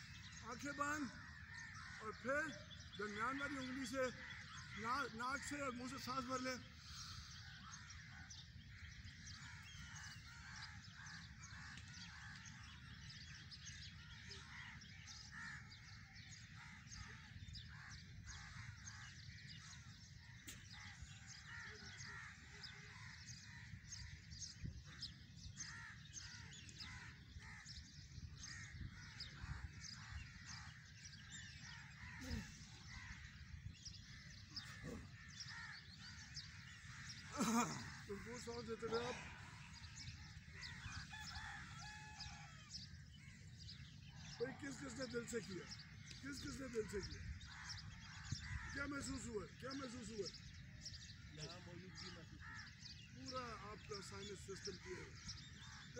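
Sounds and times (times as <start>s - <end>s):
birds chirping and calling: 0.0s - 55.9s.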